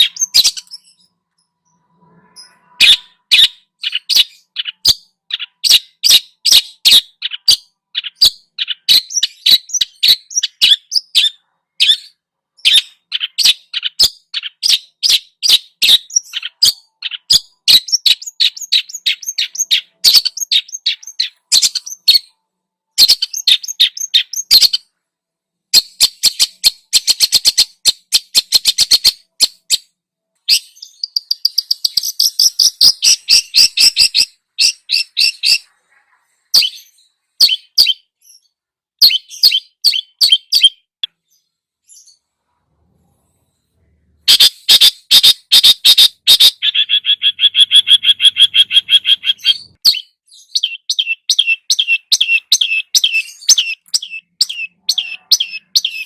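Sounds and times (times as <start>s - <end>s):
songbird singing: 0.0s - 25.0s, 25.8s - 42.2s, 44.2s - 56.0s.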